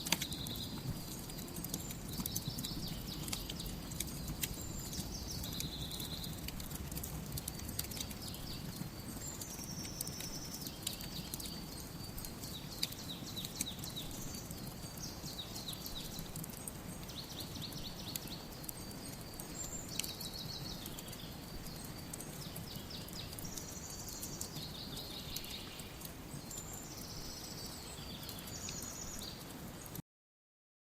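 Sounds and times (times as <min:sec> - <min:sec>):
small birds chirping and trilling: 0:00.0 - 0:30.0
wood fire crackling and popping: 0:00.0 - 0:30.0.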